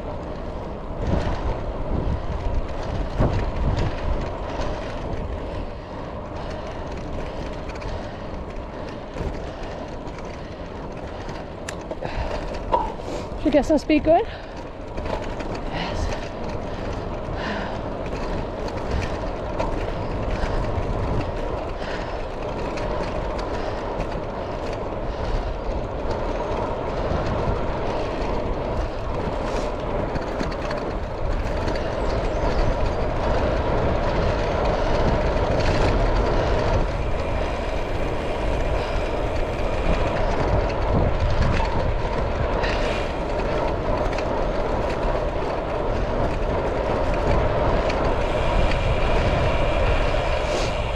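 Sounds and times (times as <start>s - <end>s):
bike tyres humming on tarmac: 0.0s - 50.9s
wind rushing over microphone: 0.0s - 50.9s.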